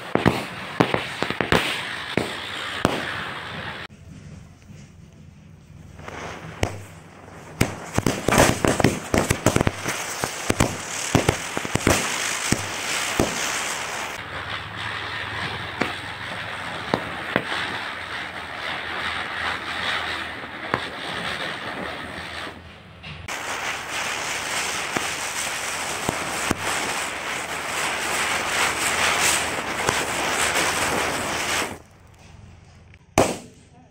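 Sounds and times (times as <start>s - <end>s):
ground spinner firework hissing: 0.0s - 32.6s
firecrackers banging: 0.0s - 33.9s.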